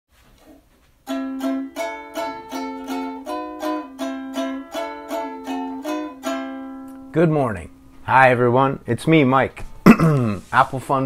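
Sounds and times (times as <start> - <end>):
strummed string instrument chords: 1.0 - 10.2.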